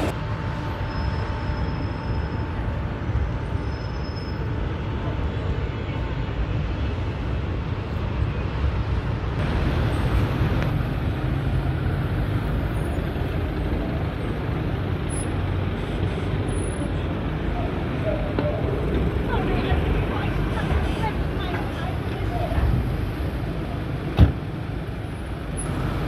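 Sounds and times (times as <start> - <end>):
city road traffic rumble: 0.0 - 26.0.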